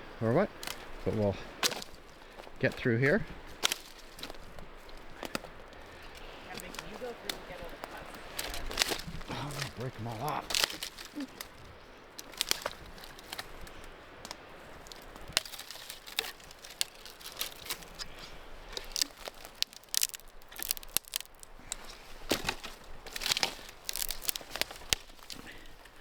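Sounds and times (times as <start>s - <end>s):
branches snapping: 0.0s - 26.0s.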